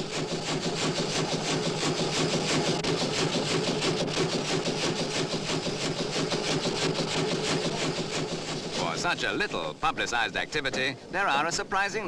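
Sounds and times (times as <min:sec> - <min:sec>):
steam traction engine chuffing: 0:00.0 - 0:12.0.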